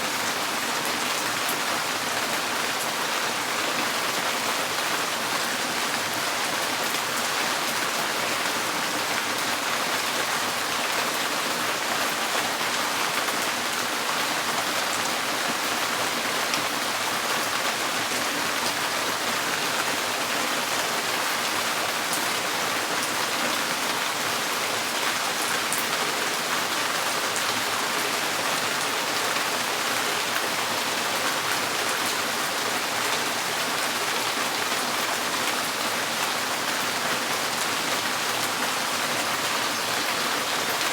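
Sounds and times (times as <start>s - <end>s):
rain on a tin roof: 0.0s - 40.9s.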